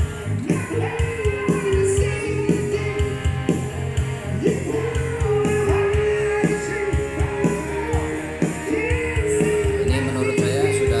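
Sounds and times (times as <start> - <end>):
person singing: 0.0 - 11.0
rock band music: 0.0 - 11.0.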